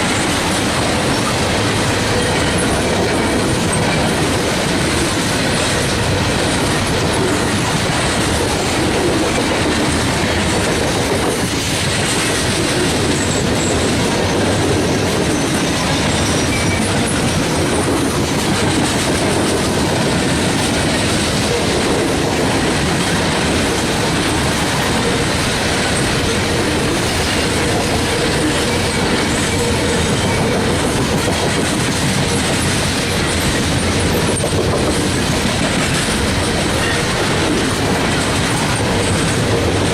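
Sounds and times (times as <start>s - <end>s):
steel wheels rolling on rails: 0.0s - 39.9s.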